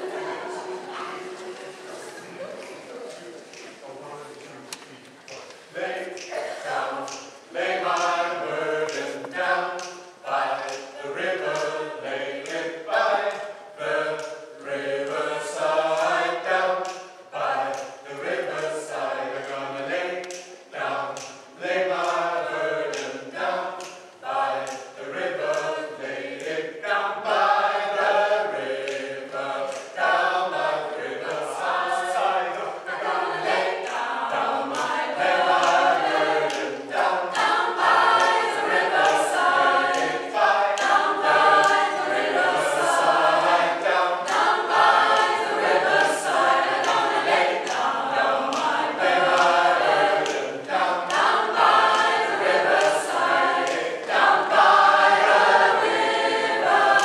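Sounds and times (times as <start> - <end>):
mixed choir singing a cappella: 0.0 - 3.2, 5.6 - 57.0.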